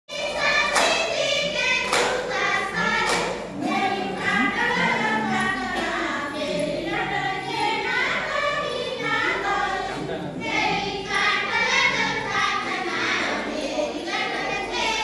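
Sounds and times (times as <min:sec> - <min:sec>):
group of voices singing: 0:00.1 - 0:15.0.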